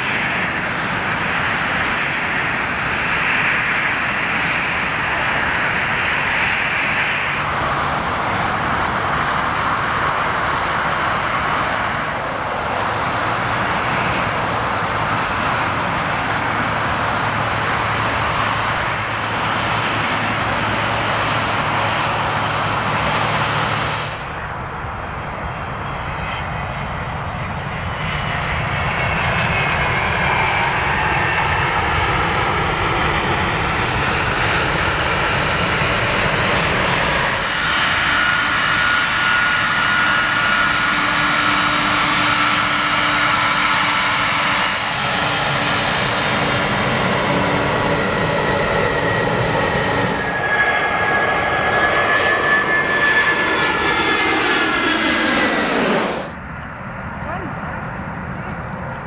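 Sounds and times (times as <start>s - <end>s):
airliner takeoff roll: 0.0s - 59.0s
jet engines whining and rumbling: 0.0s - 59.0s.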